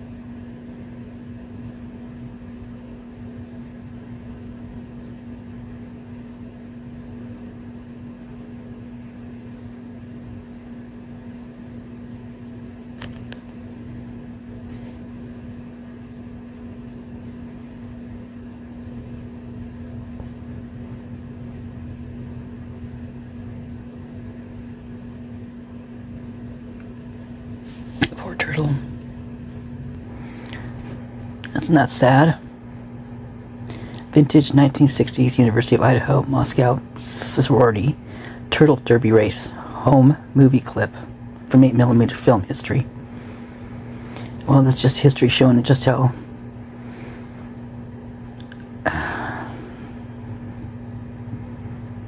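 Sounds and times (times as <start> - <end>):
steady mechanical hum: 0.0 - 52.0.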